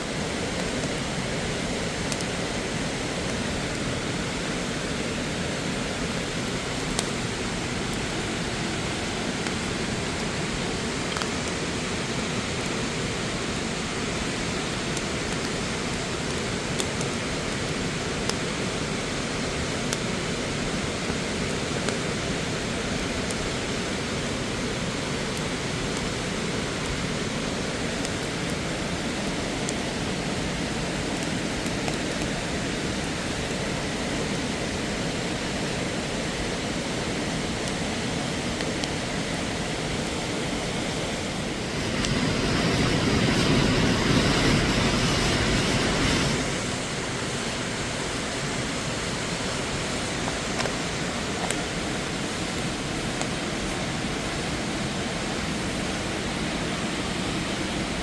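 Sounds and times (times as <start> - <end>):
rushing mountain water: 0.0 - 58.0.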